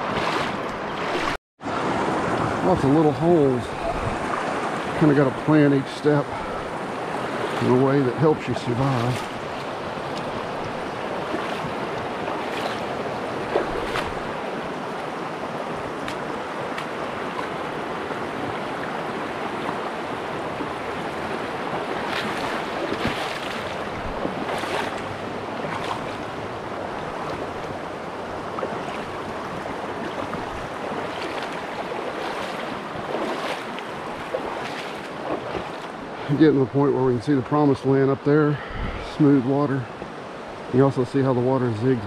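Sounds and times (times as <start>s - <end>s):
water splashes and knocks: 0.0s - 5.3s, 6.0s - 36.0s
water rushing over rocks: 0.0s - 38.3s.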